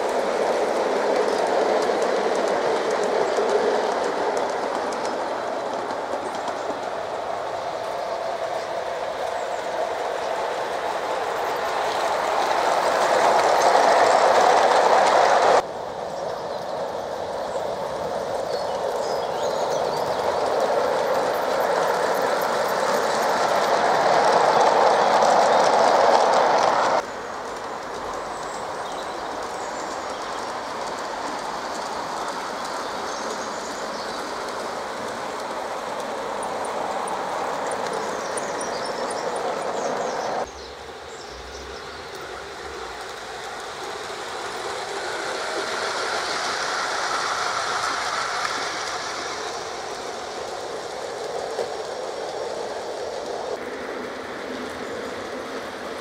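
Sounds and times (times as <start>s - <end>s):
model train wheels rolling on rails: 0.0s - 56.0s.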